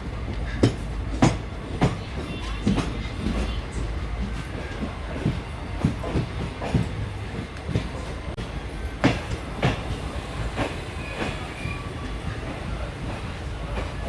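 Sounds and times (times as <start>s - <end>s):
train rumbling: 0.0s - 14.0s
train wheels clacking on rail joints: 0.2s - 14.0s.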